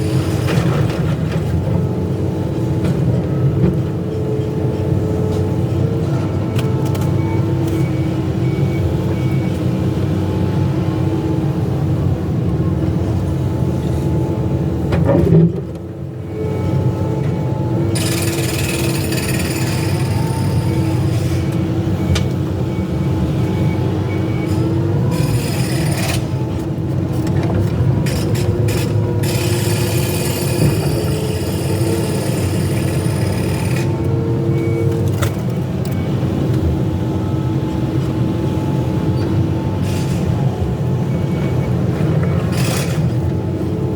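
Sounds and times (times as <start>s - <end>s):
diesel engine running under load: 0.0s - 43.9s.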